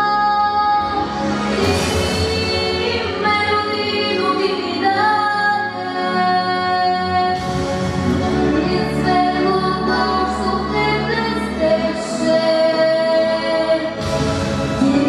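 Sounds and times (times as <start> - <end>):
woman singing: 0.0 - 7.5, 8.4 - 14.0, 14.8 - 15.0
instrumental accompaniment: 0.2 - 15.0.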